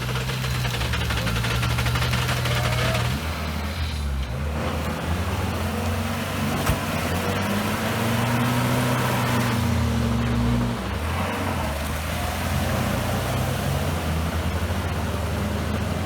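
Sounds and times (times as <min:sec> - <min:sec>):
engine working under load: 0:00.0 - 0:16.0.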